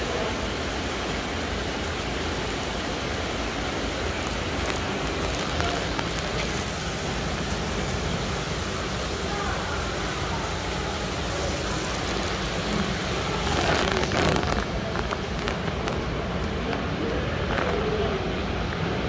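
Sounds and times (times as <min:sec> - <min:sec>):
steady rushing hiss: 0:00.0 - 0:19.0.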